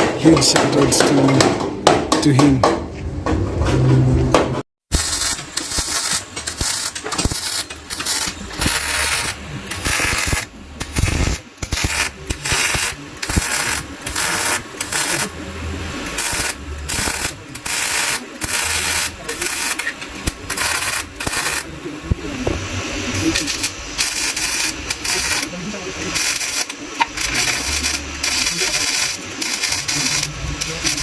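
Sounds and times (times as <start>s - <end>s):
welder hissing in bursts: 4.9s - 21.7s, 22.4s - 31.0s.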